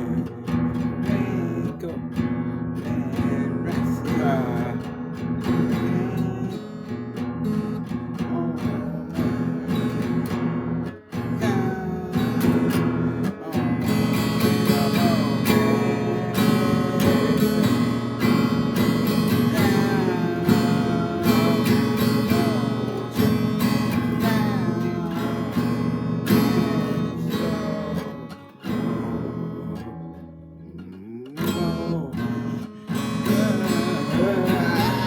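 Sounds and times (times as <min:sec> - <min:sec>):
strummed acoustic guitar: 0:00.0 - 0:35.0.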